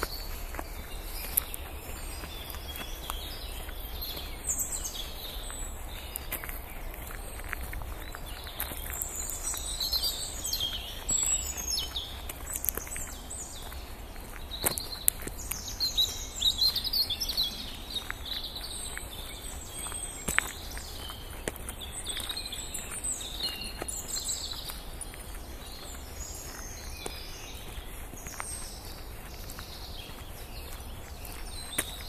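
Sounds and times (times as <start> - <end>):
birds chirping and trilling: 0.0 - 32.0
footsteps on gravel: 0.0 - 32.0.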